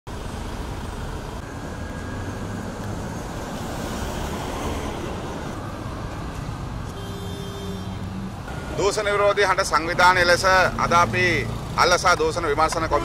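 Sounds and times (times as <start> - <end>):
road traffic hum: 0.1 - 13.0.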